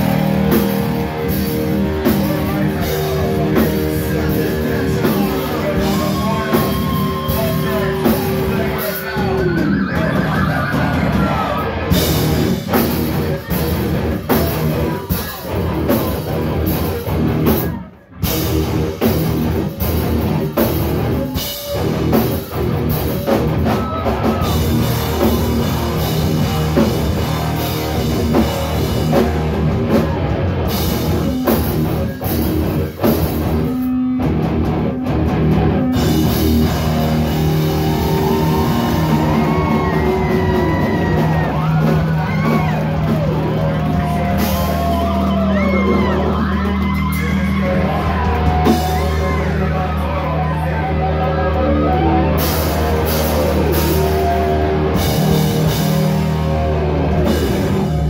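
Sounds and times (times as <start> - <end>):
heavy band playing live: 0.0 - 58.0.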